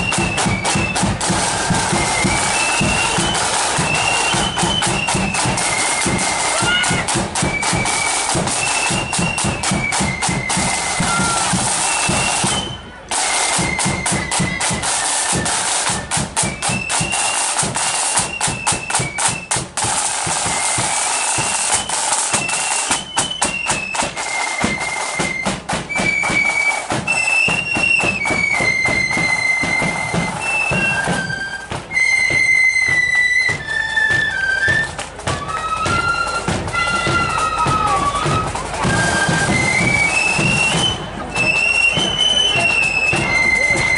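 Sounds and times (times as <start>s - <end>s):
flutes playing melody: 0.0s - 43.9s
side drum strokes: 0.0s - 43.9s.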